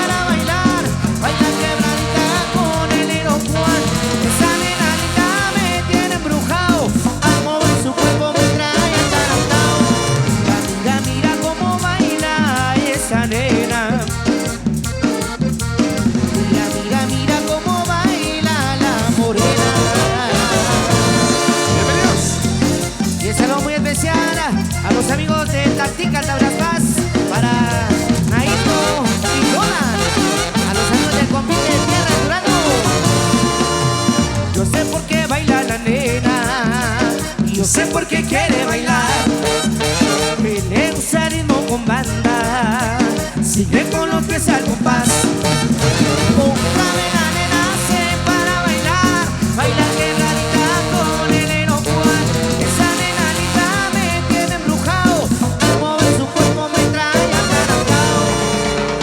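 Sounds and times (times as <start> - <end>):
latin dance band playing: 0.0 - 59.0.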